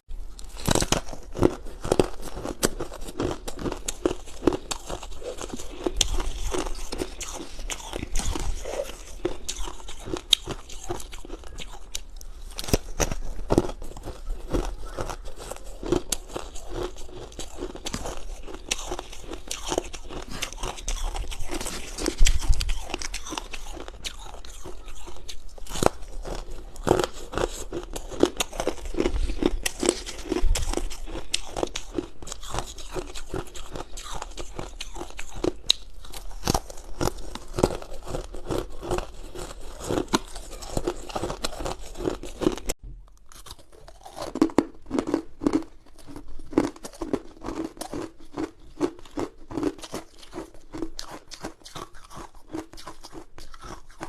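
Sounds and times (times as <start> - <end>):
ice being chewed: 0.3 - 54.0.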